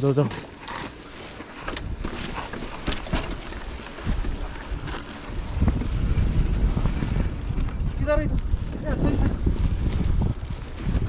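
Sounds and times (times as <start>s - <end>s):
mountain bike rattling: 0.0s - 11.0s
wind buffeting microphone: 1.4s - 11.0s.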